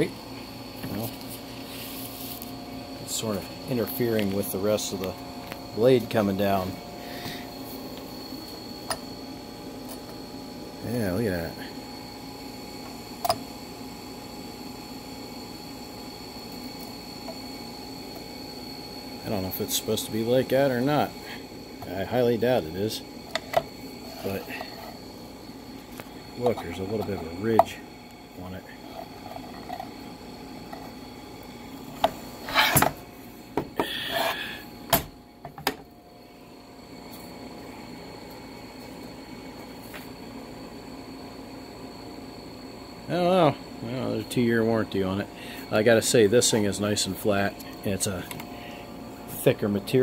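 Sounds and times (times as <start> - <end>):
background hum: 0.0 - 50.0.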